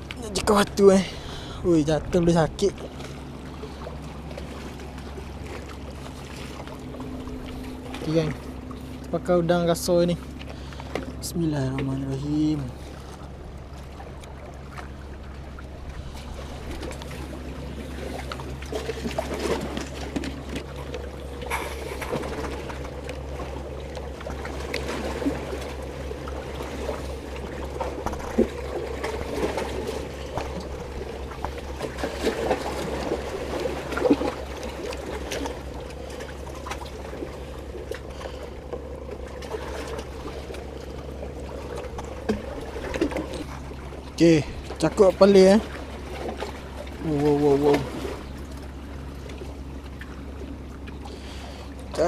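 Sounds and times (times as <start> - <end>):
small water splashes: 0.0 - 52.0
steady low hum: 0.0 - 52.0
water lapping and trickling: 0.0 - 52.0.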